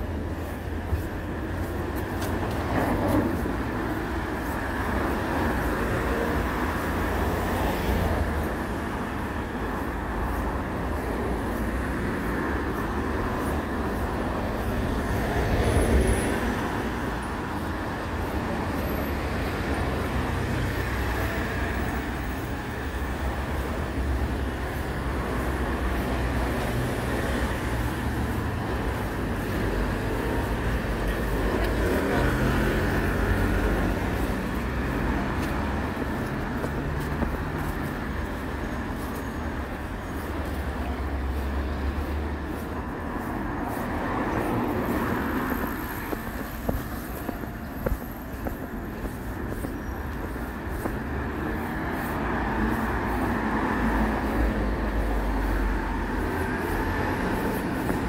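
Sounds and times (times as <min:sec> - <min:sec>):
passing vehicles rumbling: 0:00.0 - 0:58.0.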